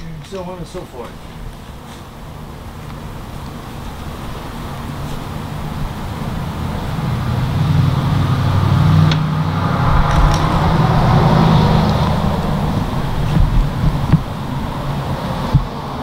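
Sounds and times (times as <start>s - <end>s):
vehicle engine droning: 1.5s - 16.0s.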